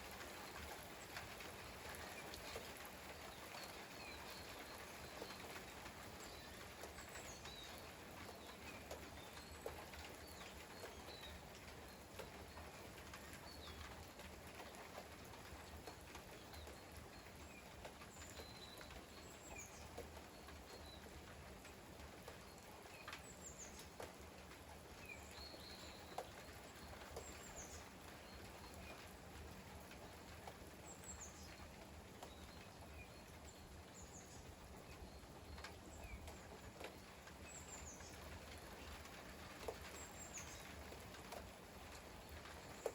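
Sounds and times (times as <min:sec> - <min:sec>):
light rain: 0:00.0 - 0:42.9
drops ticking and dripping: 0:00.1 - 0:42.9.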